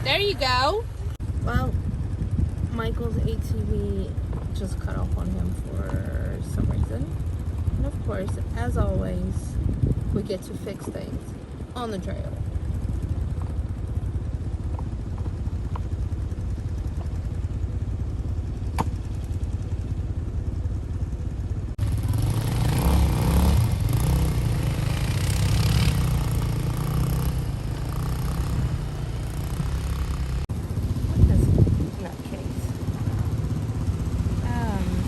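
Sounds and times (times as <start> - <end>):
engine idling with low rumble: 0.0 - 35.0
engine running loud and rough: 0.0 - 35.0.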